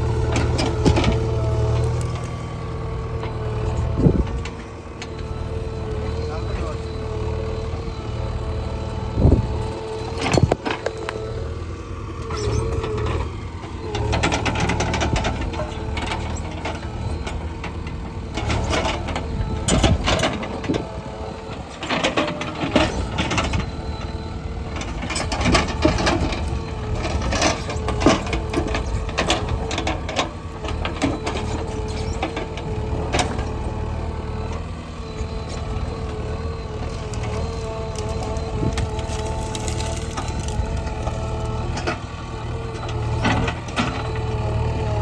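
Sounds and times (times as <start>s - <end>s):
diesel engine whining under load: 0.0s - 45.0s.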